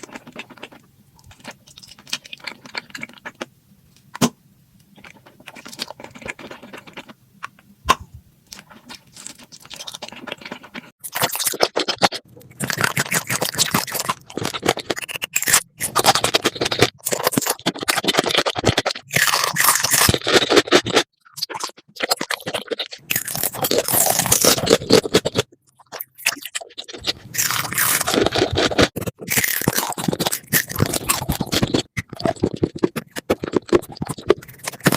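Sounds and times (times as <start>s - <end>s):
close-miked crunchy eating: 0.0s - 3.5s, 4.9s - 34.9s.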